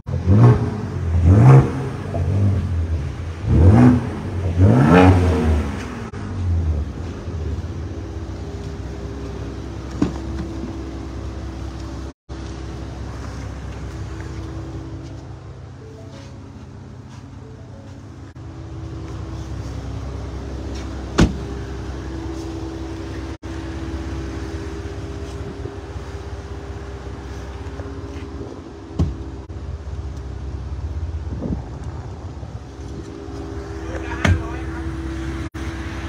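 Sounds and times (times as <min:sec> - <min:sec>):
vehicle engine idling: 0:05.8 - 0:36.0.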